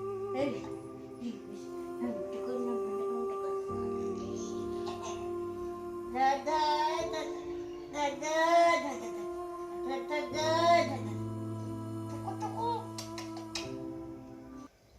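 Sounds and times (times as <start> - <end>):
held backing chord: 0.0 - 14.7
high wavering vocals: 0.0 - 14.7.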